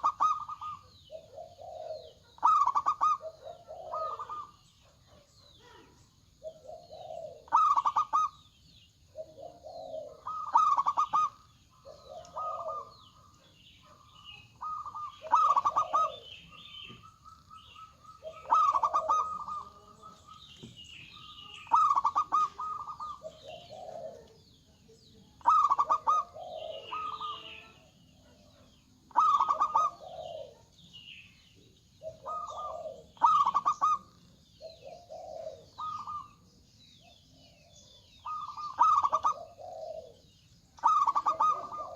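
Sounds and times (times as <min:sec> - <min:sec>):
doves cooing: 0:00.0 - 0:41.9
small birds chirping: 0:00.0 - 0:41.9.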